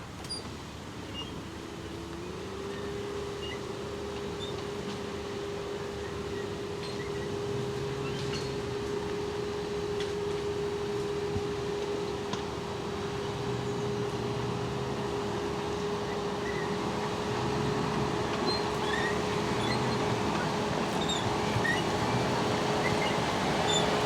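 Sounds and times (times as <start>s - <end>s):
engine running: 0.2s - 24.0s.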